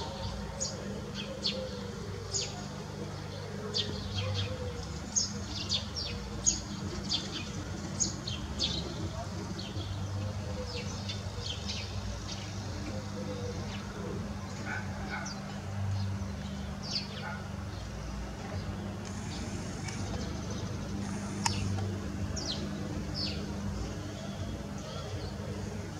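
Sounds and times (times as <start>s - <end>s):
small birds chirping: 0.0s - 25.9s
steady low hum: 0.0s - 25.9s.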